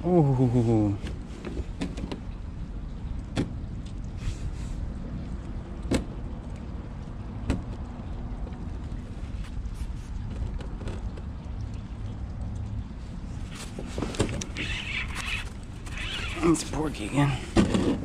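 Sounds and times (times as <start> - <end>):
wind: 0.0 - 18.0
water washing around kayak hull: 0.5 - 18.0.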